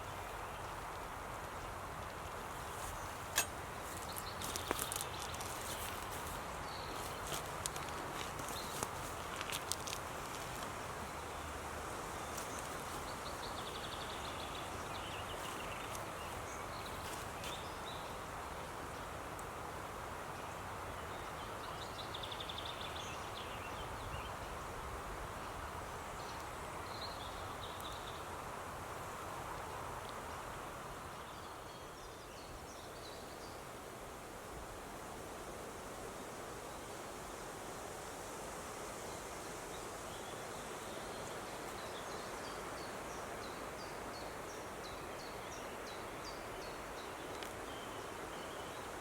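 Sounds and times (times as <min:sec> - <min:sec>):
wind through forest leaves: 0:00.0 - 0:49.0.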